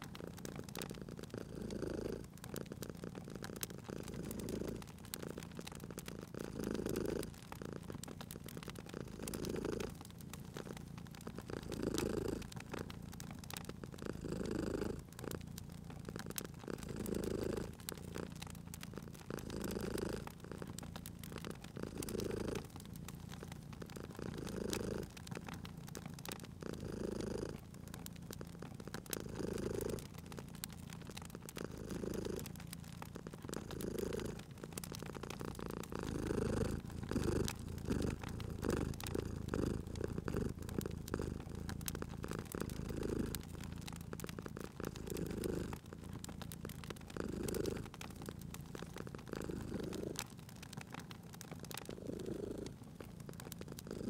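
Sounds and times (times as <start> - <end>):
cat purring: 0.0 - 54.0
wood fire crackling: 0.0 - 54.0.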